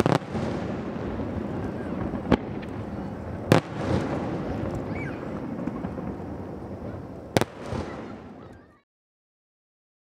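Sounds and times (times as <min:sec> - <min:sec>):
loud firework bang: 0:00.0 - 0:08.6
fireworks booming and crackling: 0:00.0 - 0:08.8.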